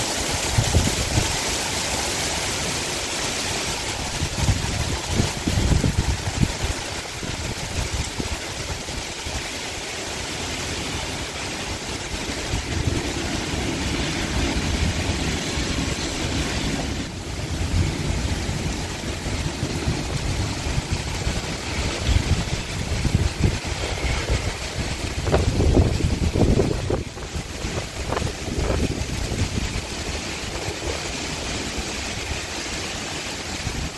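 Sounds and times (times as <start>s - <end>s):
gusty wind rumble: 0.0s - 1.8s, 3.3s - 33.9s
heavy rain pouring: 0.0s - 33.9s.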